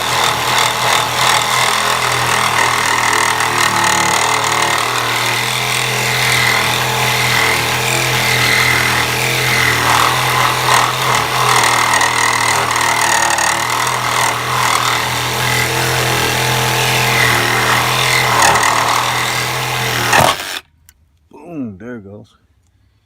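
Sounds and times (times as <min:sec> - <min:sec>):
power tool cutting metal: 0:00.0 - 0:20.6.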